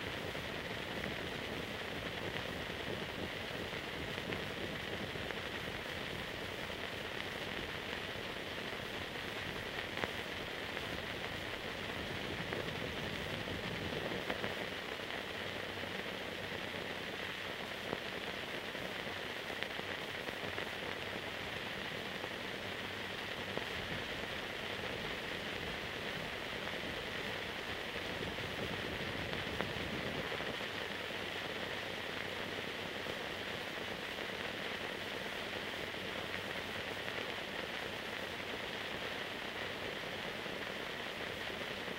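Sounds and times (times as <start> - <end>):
steady film hiss: 0.0 - 41.9.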